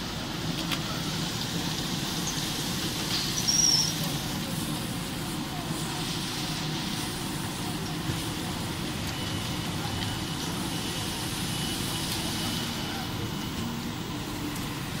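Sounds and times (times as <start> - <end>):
machinery rumble and hiss: 0.0 - 15.0.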